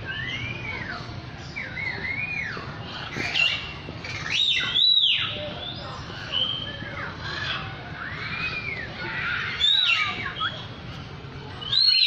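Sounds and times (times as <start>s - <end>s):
birds singing whistled notes: 0.0s - 10.8s, 11.6s - 12.0s.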